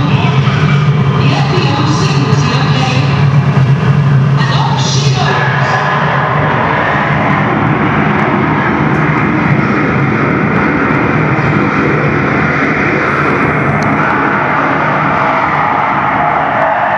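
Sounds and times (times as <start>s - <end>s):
jet engine over loudspeakers: 0.0s - 16.9s.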